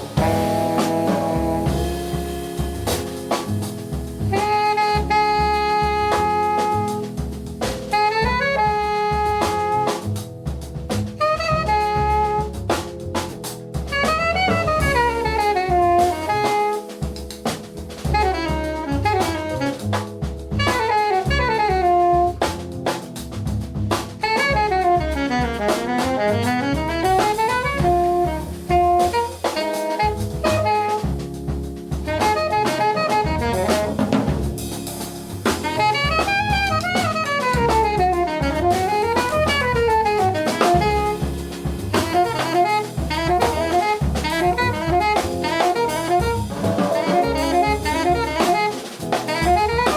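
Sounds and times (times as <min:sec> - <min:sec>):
alto saxophone fast runs: 0:00.0 - 0:49.9
double bass: 0:00.0 - 0:49.9
drum kit: 0:00.0 - 0:49.9.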